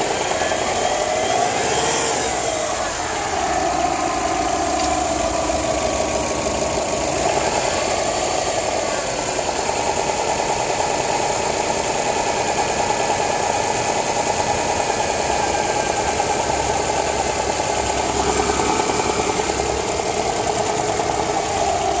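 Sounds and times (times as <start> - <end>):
engine idling with fast ticking: 0.0 - 22.0.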